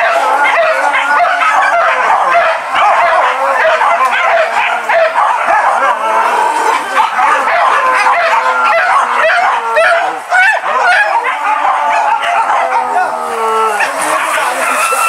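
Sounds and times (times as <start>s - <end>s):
dogs yelping and baying: 0.0s - 15.0s.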